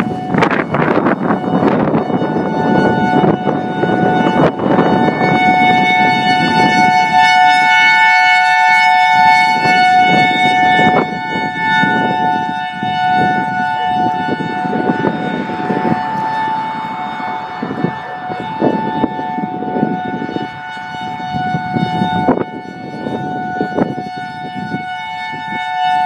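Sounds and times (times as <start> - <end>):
electronic siren dual-tone chord: 0.0 - 26.0.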